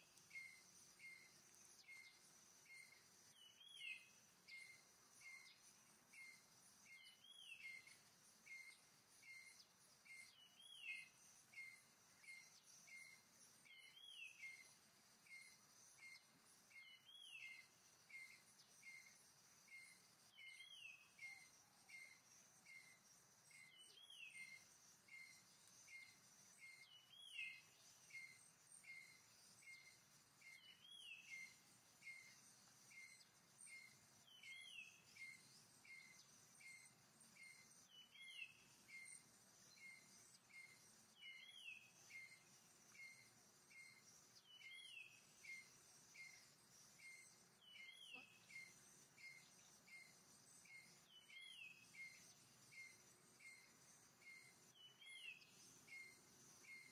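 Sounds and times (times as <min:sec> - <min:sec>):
insect drone: 0:00.0 - 0:56.9.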